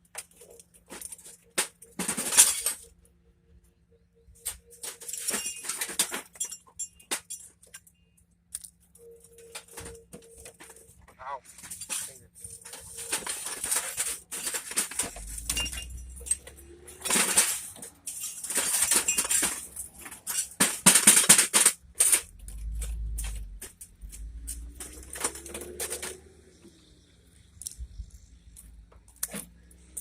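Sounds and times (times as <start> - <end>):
broken glass and metal scraping: 0.1 - 3.0, 4.3 - 27.0.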